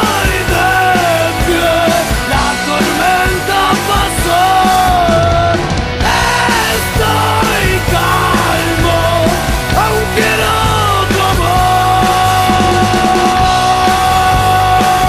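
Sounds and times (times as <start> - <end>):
hard rock band music: 0.0 - 15.0.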